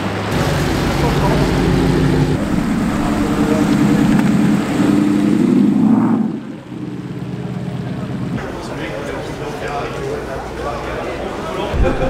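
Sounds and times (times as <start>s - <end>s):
car engines running at low speed: 0.0s - 12.0s.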